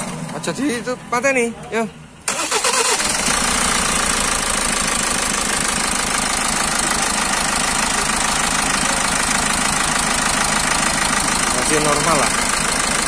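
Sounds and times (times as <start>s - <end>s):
diesel engine idling rough: 0.0s - 13.0s.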